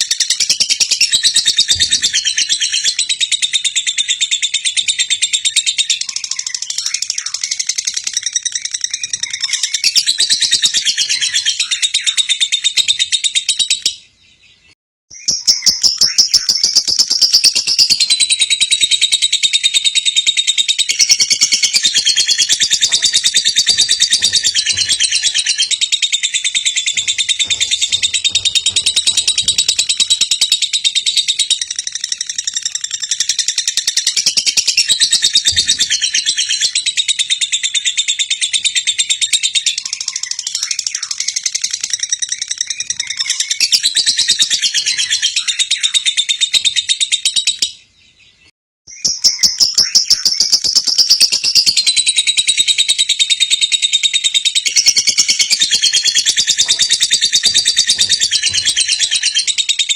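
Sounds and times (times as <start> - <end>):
lovebird high-pitched chatter: 0.0 - 14.0, 15.2 - 47.8, 48.9 - 59.9.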